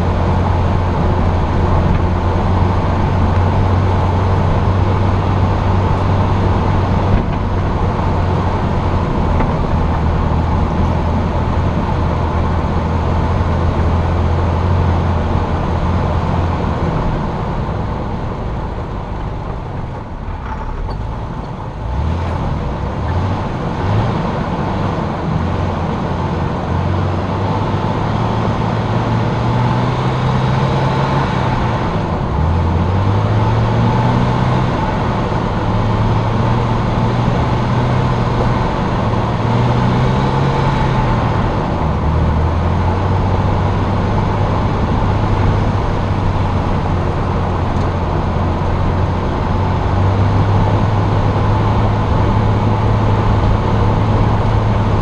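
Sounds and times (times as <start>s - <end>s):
car engine running: 0.0s - 55.0s
tyre and road noise: 0.0s - 55.0s.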